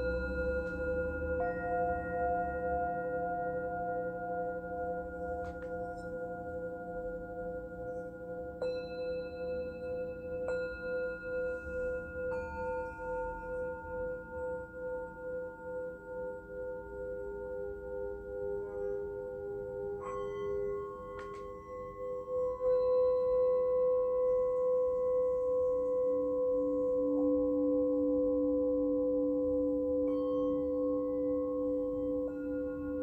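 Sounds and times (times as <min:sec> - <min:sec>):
singing bowls ringing: 0:00.0 - 0:33.0.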